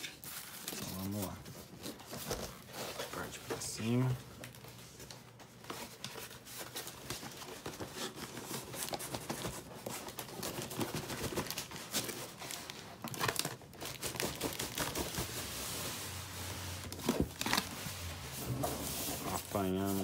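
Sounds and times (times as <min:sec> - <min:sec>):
cardboard scraping and crinkling: 0:00.0 - 0:04.2, 0:05.6 - 0:20.0.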